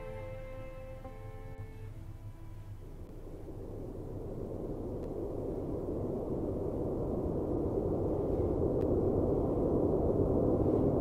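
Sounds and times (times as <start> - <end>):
low rushing noise drone: 0.0 - 11.0.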